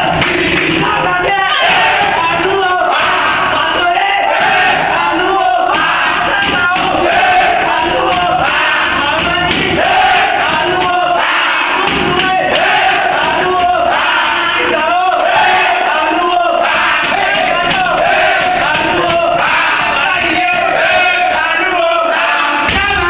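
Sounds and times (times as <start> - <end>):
group chanting and singing: 0.0 - 23.0
people shouting: 0.0 - 23.0.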